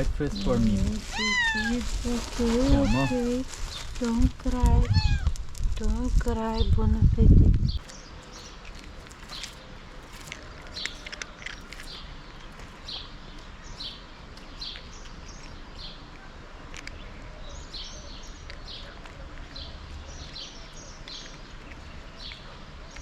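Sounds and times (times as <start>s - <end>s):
outdoor background noise: 0.0s - 23.0s
small birds chirping: 0.0s - 23.0s.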